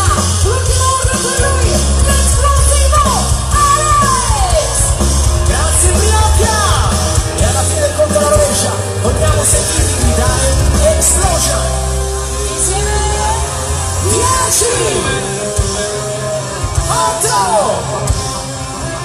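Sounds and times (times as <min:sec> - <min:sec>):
heavy steady bass: 0:00.0 - 0:19.0
loud concert music: 0:00.0 - 0:19.0.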